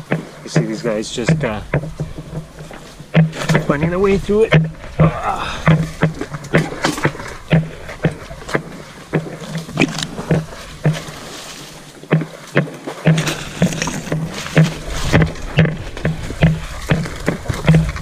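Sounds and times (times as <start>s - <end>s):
sharp knocks and clatters: 0.0s - 18.0s.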